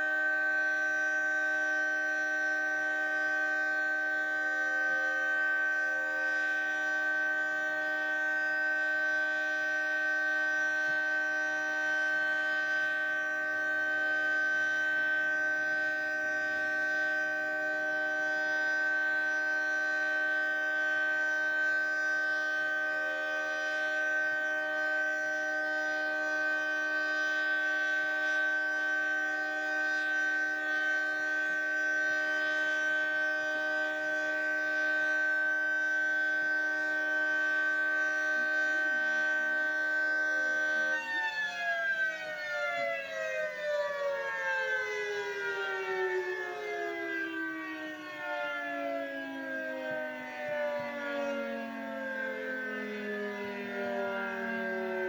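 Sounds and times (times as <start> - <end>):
three-tone warning siren chord: 0.0 - 55.0.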